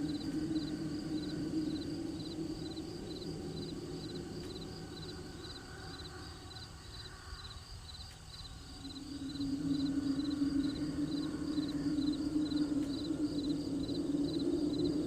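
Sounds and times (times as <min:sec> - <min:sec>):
low hum: 0:00.0 - 0:07.4, 0:08.4 - 0:15.0
crickets chirping: 0:00.0 - 0:15.0
high insect trill: 0:00.0 - 0:15.0.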